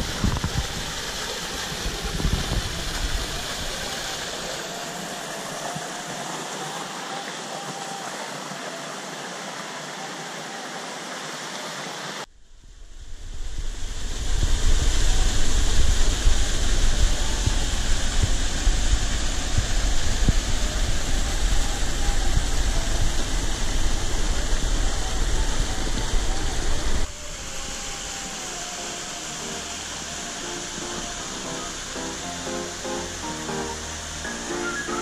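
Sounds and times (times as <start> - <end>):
stream running over rock: 0.0 - 12.3, 13.2 - 35.0
waterfall rushing: 0.0 - 12.3, 13.2 - 35.0.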